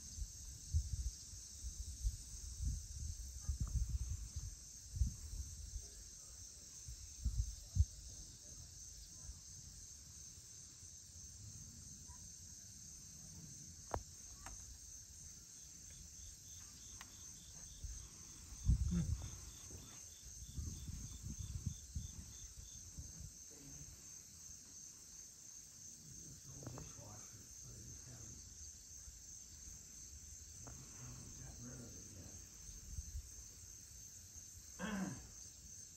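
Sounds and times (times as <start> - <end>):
crickets trilling: 0.0 - 35.9
lower pulsing insect call: 0.0 - 35.9.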